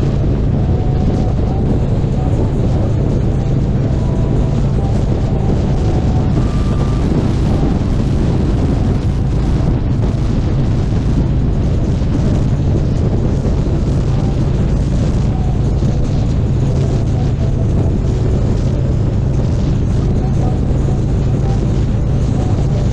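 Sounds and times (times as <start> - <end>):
motorcycle engine running: 0.0 - 22.9
wind rushing over microphone: 0.0 - 22.9.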